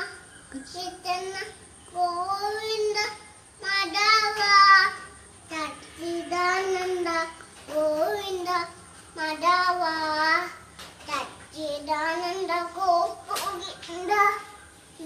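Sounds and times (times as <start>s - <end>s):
toddler chanting prayers: 0.0s - 15.0s.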